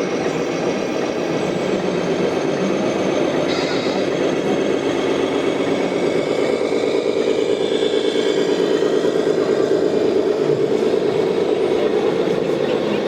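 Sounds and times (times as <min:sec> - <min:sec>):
model truck simulated engine: 0:00.0 - 0:13.0.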